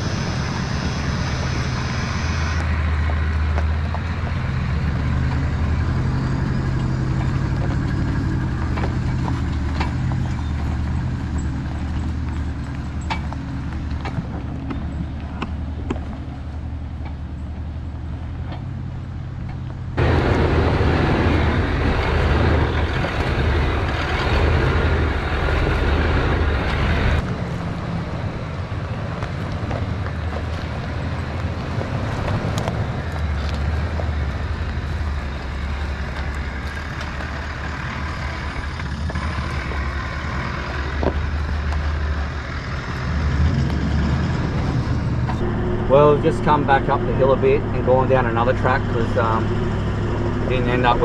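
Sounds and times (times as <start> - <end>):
tyres crunching on gravel: 0.0 - 51.0
vehicle engine running slowly: 0.0 - 51.0.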